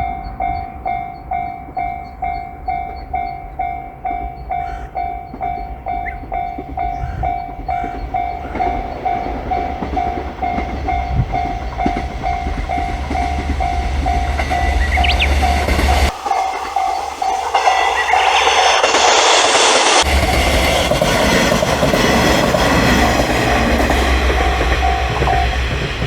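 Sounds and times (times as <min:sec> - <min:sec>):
diesel railcar engine and wheels rumbling: 0:00.0 - 0:26.0
level crossing alarm bell ringing: 0:00.0 - 0:26.0.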